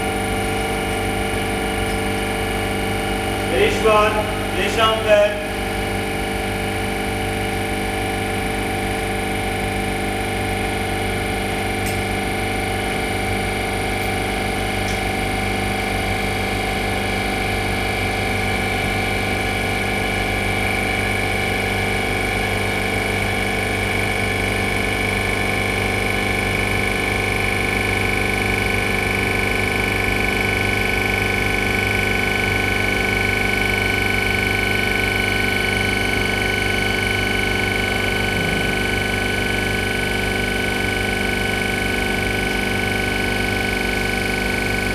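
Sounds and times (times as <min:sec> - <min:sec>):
refrigeration compressor humming: 0:00.0 - 0:44.9.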